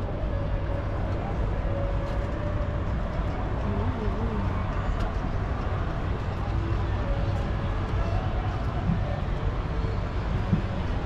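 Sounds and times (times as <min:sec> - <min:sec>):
city background noise: 0:00.0 - 0:11.0.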